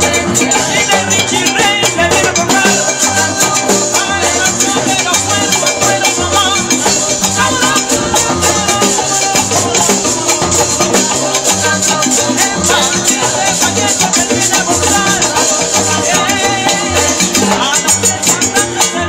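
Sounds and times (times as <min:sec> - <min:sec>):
drums: 0:00.0 - 0:19.0
repeating bass line: 0:00.0 - 0:19.0.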